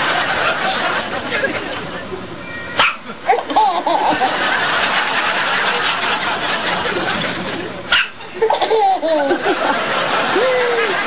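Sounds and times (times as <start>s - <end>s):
people chuckling: 0.0s - 2.4s, 3.1s - 11.0s.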